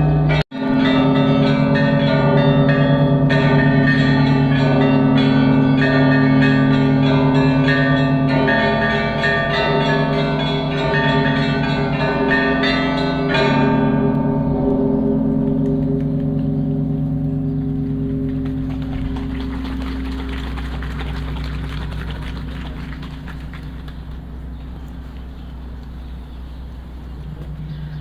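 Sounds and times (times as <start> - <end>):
large bells humming: 0.0 - 28.0.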